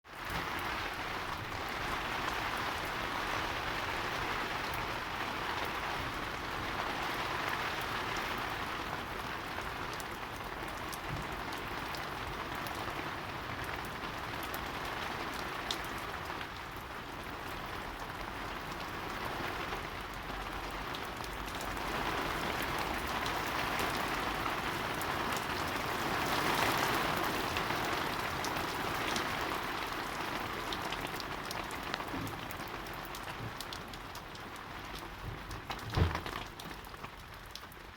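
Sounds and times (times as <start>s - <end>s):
heavy rain on hard surfaces: 0.0s - 37.9s.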